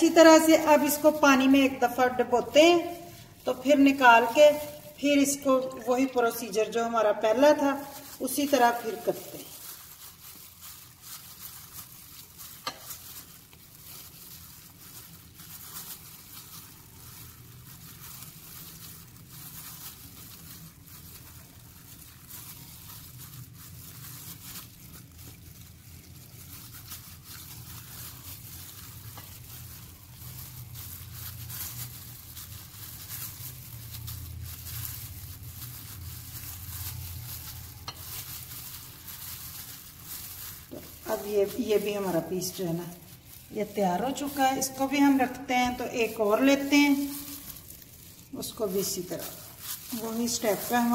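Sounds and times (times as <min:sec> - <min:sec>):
flour rustling and scrunching: 0:00.0 - 0:50.9.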